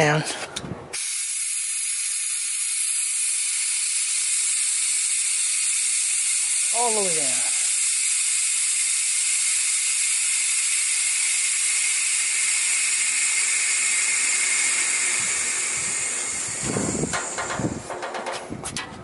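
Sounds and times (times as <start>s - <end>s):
compressed air hissing: 0.9s - 18.8s.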